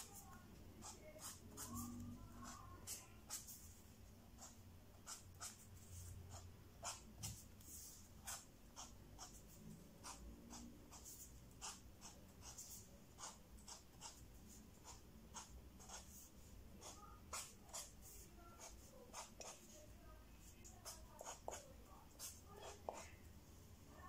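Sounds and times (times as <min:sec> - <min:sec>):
pen scratching on paper: 0:00.0 - 0:20.0, 0:20.6 - 0:23.2.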